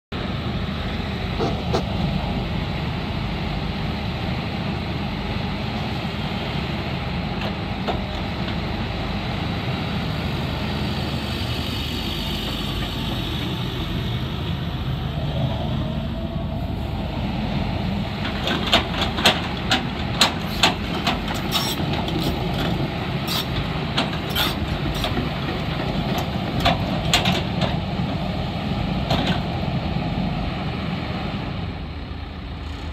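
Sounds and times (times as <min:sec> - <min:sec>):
excavator diesel engine running: 0:00.2 - 0:32.9.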